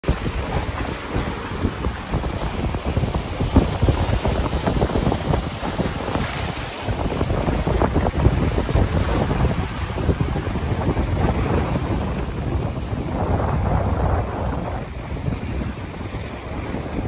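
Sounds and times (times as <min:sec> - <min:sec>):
sea waves splashing on rocks: 0:00.0 - 0:17.0
wind buffeting microphone: 0:00.0 - 0:17.0.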